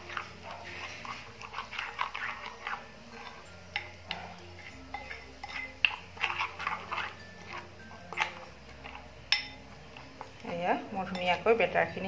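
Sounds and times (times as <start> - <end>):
spoon scraping glass bowl: 0.0 - 12.0.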